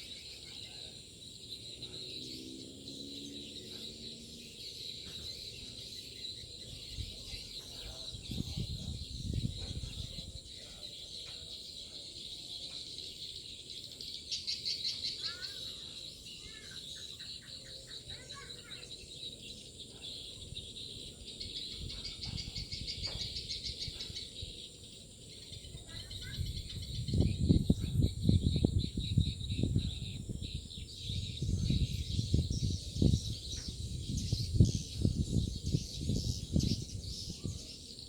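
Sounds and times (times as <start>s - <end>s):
crickets and insects chirring: 0.0s - 38.0s.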